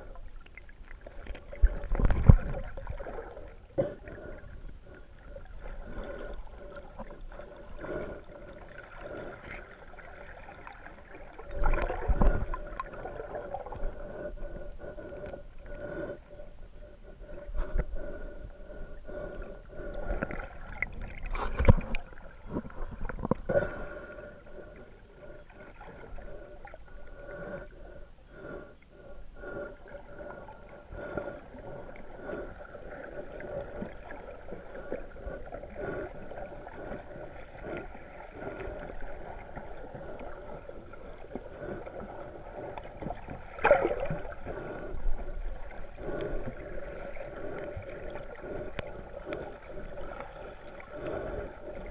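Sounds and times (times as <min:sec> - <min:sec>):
underwater surging and gurgling: 0:00.0 - 0:51.9.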